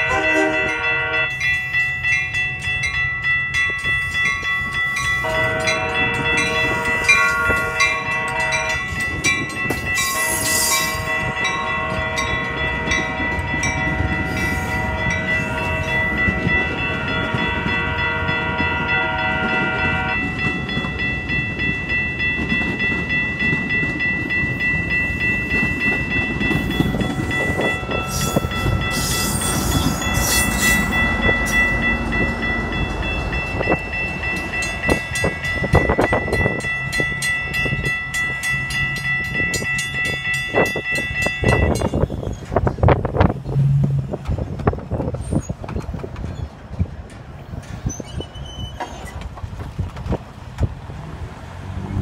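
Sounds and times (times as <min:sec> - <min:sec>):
crossing bells ringing: 0:00.0 - 0:45.5
train rumbling over crossing: 0:00.0 - 0:52.0.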